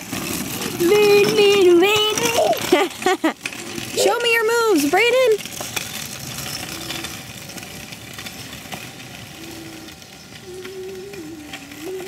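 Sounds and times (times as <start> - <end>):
scooter wheels rolling on asphalt: 0.0 - 12.0.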